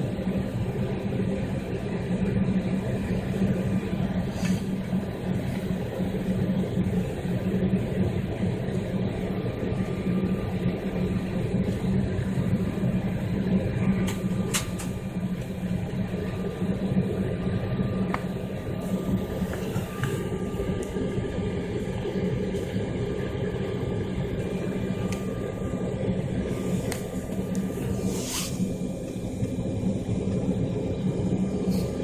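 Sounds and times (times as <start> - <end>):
airliner cabin engine drone: 0.0 - 32.0.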